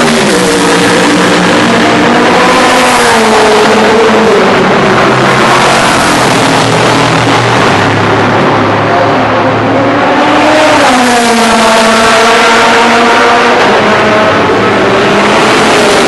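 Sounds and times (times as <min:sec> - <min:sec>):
race car engines at high revs: 0:00.0 - 0:16.0.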